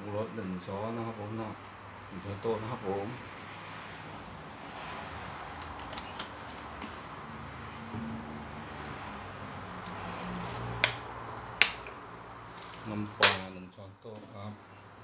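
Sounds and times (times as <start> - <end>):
low hiss: 0.0 - 5.3, 6.0 - 15.0
cricket chirping: 0.0 - 15.0.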